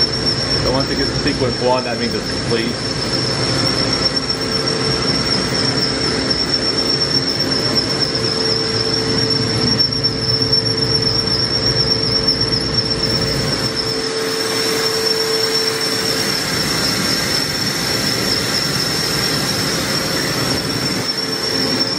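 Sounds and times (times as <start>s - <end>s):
high-pitched machine whine: 0.0s - 21.9s
low steady machine tone: 0.0s - 21.9s
machining center running: 0.0s - 21.9s.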